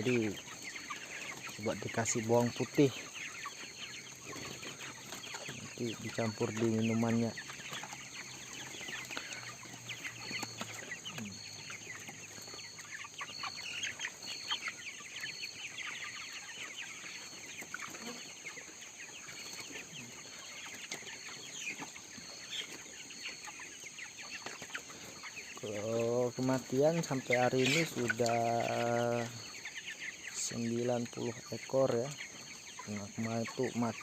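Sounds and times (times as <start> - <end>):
chickens peeping and chirping: 0.0 - 34.0.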